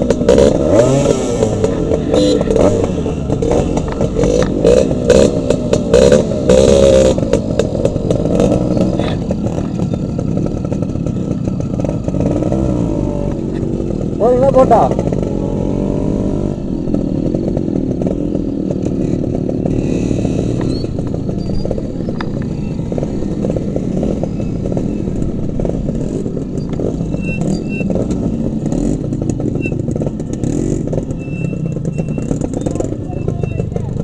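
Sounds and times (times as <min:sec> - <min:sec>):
motorcycle engine running at low speed: 0:00.0 - 0:34.0.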